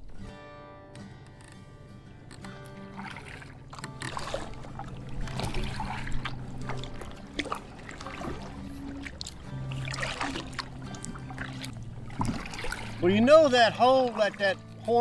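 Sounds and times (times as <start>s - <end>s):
kayak paddle dipping and pulling: 1.2s - 15.0s
water splashing and dripping: 2.8s - 15.0s.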